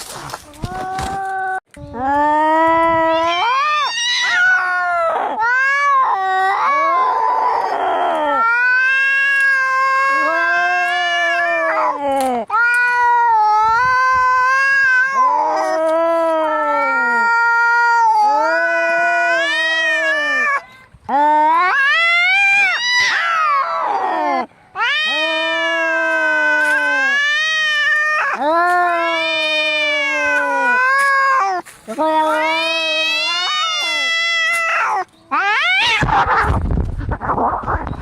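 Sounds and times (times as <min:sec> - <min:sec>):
cats yowling: 0:02.4 - 0:20.6, 0:21.2 - 0:36.6.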